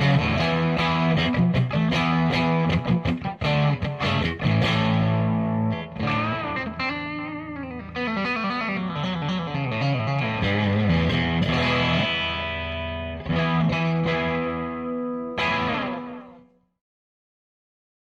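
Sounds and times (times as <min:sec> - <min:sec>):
electric guitar playing: 0:00.0 - 0:16.6.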